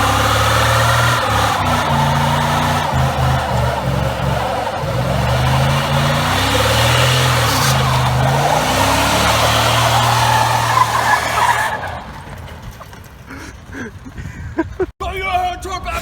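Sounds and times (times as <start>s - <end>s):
pickup engine accelerating: 0.0s - 13.7s
road and wind noise: 0.0s - 15.0s.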